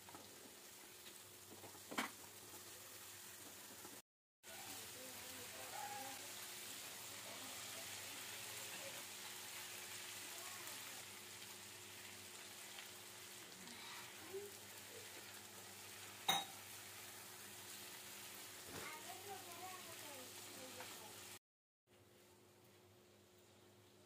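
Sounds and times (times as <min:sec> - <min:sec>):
food sizzling in a pan: 0:00.0 - 0:21.4, 0:22.1 - 0:24.0.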